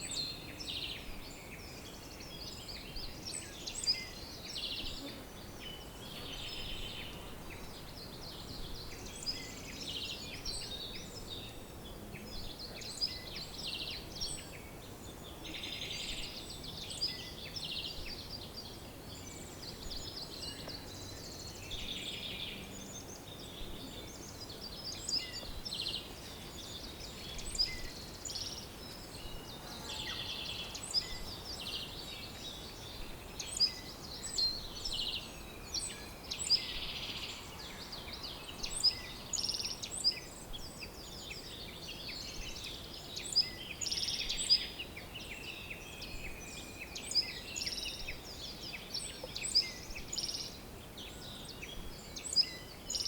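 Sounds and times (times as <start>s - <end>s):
songbirds singing and chirping: 0.0s - 53.0s.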